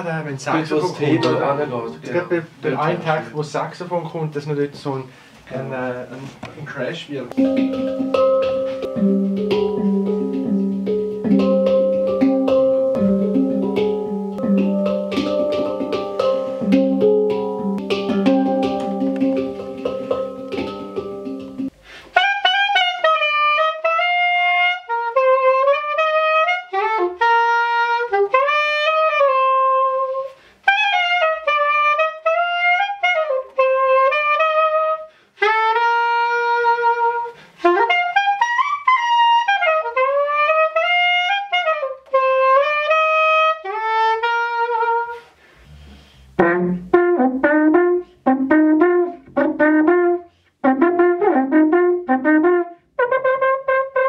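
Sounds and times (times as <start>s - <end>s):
soprano saxophone melody: 7.4s - 54.0s.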